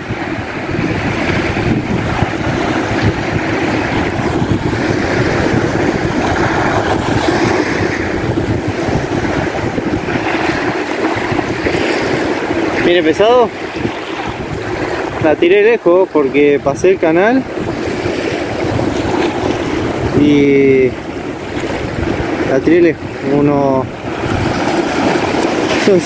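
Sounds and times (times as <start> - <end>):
small waves breaking on shore: 0.0 - 26.0
wind buffeting microphone: 0.0 - 26.0.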